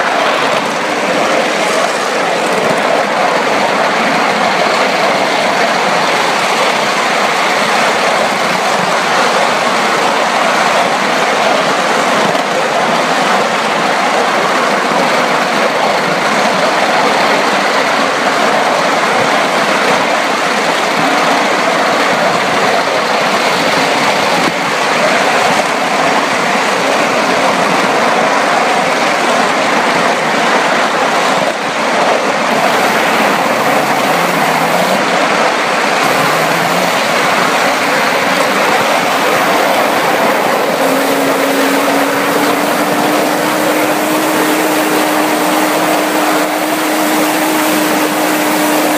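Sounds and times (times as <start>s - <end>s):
miniature train rolling on track: 0.0s - 48.9s.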